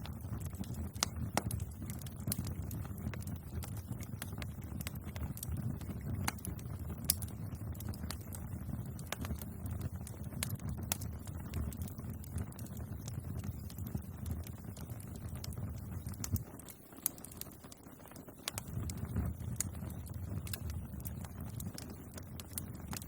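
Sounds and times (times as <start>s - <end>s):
burning wood crackling and popping: 0.0s - 23.0s
wood fire flames rumbling: 0.0s - 23.0s.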